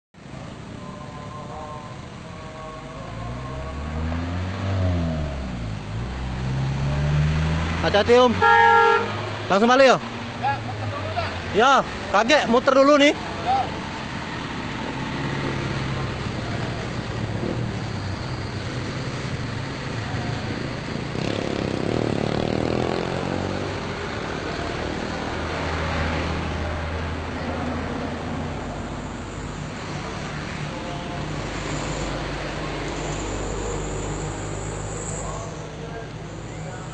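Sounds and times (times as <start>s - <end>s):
road noise: 0.1s - 36.9s
car engines running: 0.2s - 36.9s.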